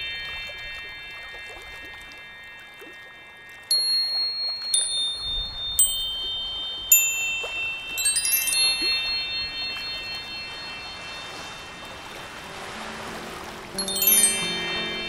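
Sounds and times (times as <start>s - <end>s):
ringing chime tones: 0.0s - 15.0s.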